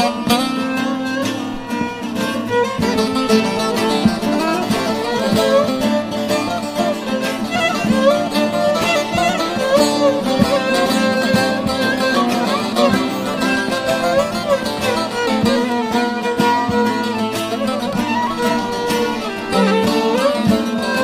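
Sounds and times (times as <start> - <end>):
instrumental pop music: 0.0 - 21.0.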